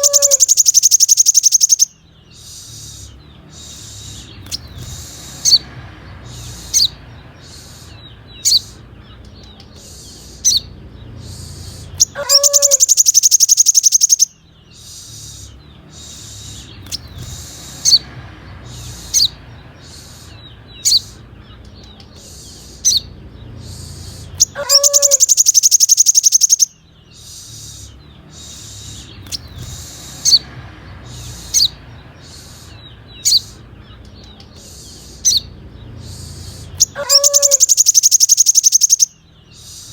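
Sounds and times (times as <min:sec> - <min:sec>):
bird rapid high trill: 0:00.0 - 0:08.8, 0:09.9 - 0:21.2, 0:22.3 - 0:33.6, 0:34.6 - 0:39.9
bird high chirps: 0:00.0 - 0:39.9.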